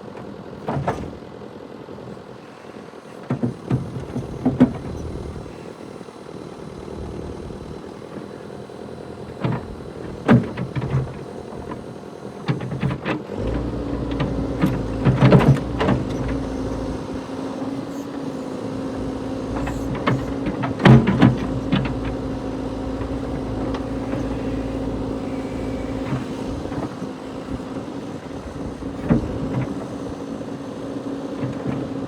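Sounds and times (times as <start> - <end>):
diesel engine running: 2.2 - 32.0.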